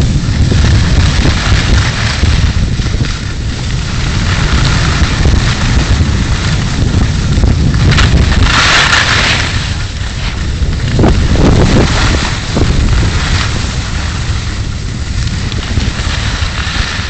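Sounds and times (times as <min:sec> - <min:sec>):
wind rumbling on microphone: 0:00.0 - 0:17.0
skis hissing on packed snow: 0:00.1 - 0:17.0.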